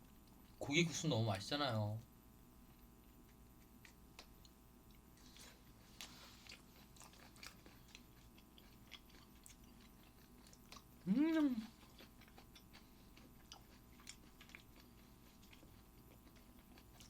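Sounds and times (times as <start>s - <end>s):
faint steady hum: 0.0s - 17.0s
person chewing with mouth clicks: 2.7s - 17.0s.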